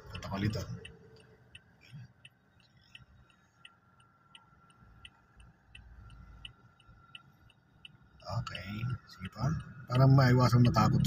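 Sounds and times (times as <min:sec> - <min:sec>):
turn signal ticking: 0:00.0 - 0:11.0.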